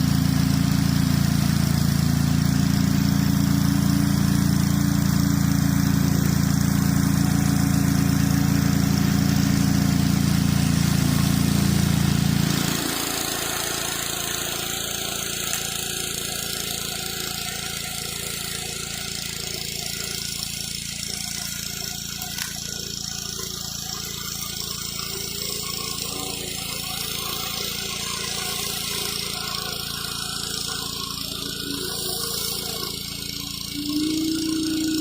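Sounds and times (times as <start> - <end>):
pressure washer engine running: 0.0 - 35.0.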